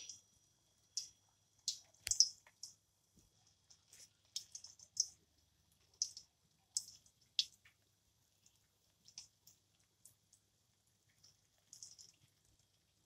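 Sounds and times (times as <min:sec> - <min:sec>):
hot oil crackling and popping: 0:00.0 - 0:00.2, 0:00.8 - 0:13.0.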